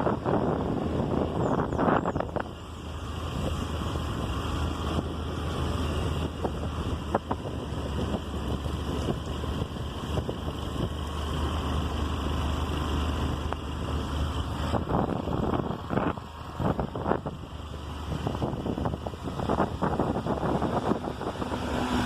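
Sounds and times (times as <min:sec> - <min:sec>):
motor scooter running: 0:00.0 - 0:22.0
wind noise on microphone: 0:00.0 - 0:22.0.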